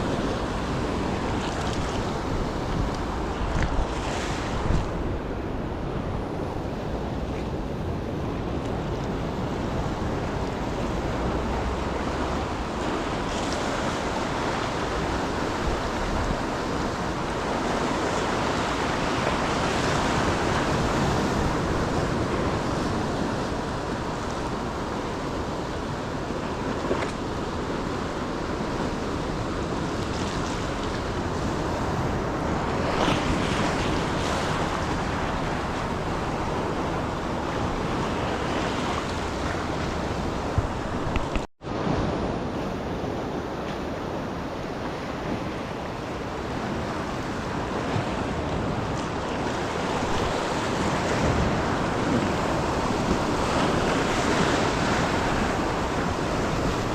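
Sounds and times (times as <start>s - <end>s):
ocean surf breaking: 0.0s - 56.9s
wind buffeting microphone: 0.0s - 56.9s.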